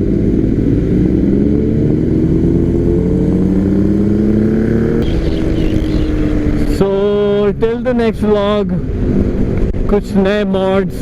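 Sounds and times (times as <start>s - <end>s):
motorcycle engine accelerating: 0.0s - 9.9s.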